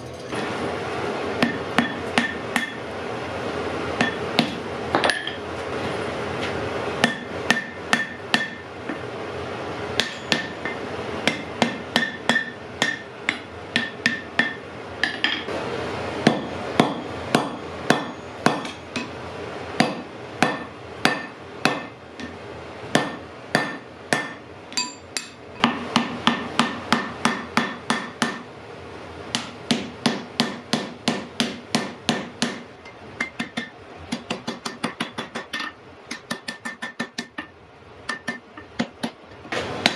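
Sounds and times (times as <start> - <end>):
hammer striking iron on anvil: 1.4 - 2.8, 4.0 - 5.4, 7.0 - 9.0, 10.0 - 15.5, 16.2 - 19.2, 19.8 - 28.5, 29.3 - 39.9.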